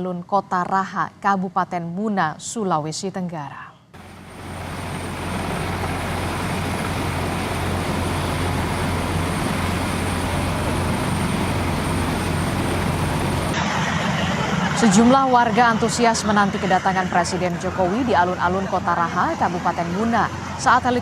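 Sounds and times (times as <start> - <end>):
helicopter rotor noise: 4.0 - 21.0.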